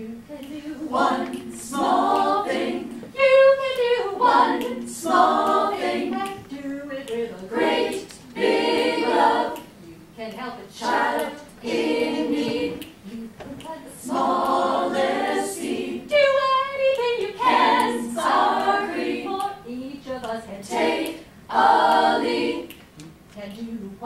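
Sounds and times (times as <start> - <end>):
women's choir singing: 0.0 - 22.8.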